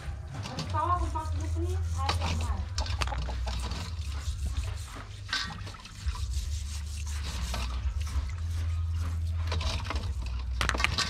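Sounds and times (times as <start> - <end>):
water splashing in steel basin: 1.9 - 11.0.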